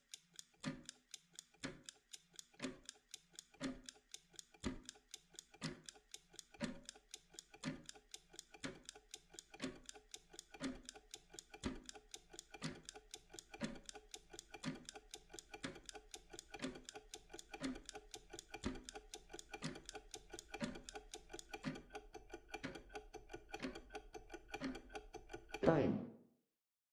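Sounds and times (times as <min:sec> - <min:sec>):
timer ticking: 0:00.0 - 0:25.8.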